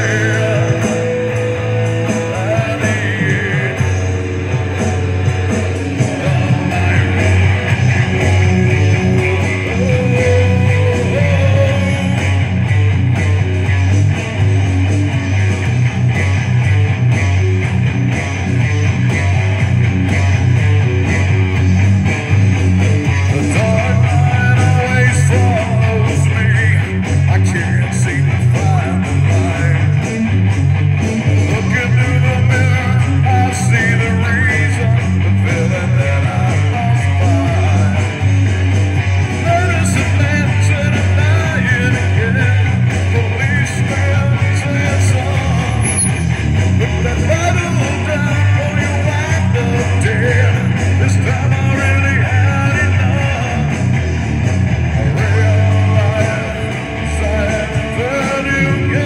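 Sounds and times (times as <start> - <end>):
live rock band playing: 0.0 - 59.0
strummed guitar: 0.0 - 59.0.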